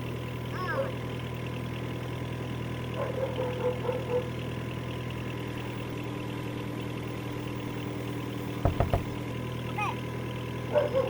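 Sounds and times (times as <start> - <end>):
motor humming at idle: 0.0 - 10.6.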